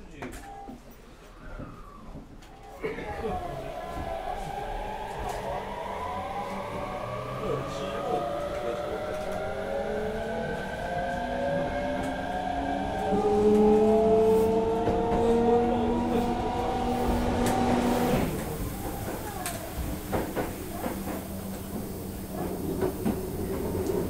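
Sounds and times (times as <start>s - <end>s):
train inverter whining: 2.8s - 24.0s.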